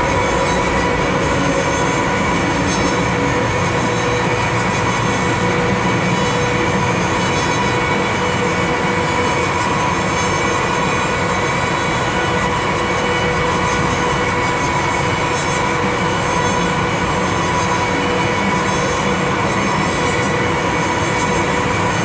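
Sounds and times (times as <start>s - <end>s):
constant hum: 0.0s - 22.0s
train wheels on rail: 0.0s - 22.0s.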